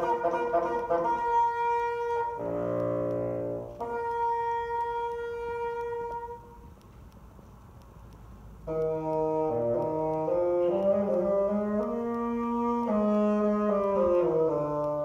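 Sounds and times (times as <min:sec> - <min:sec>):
solo bassoon playing: 0:00.0 - 0:06.7, 0:08.6 - 0:15.0.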